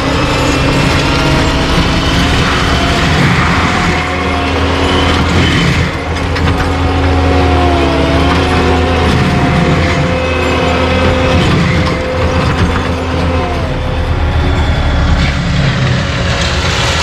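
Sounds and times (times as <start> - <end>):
engine drone: 0.0 - 17.0
high wavering whine: 0.0 - 17.0
rattling mechanical clatter: 0.0 - 17.0.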